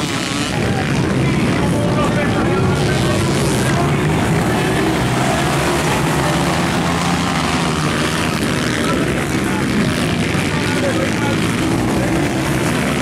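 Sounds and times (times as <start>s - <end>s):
dirt bike engines racing: 0.0s - 13.0s.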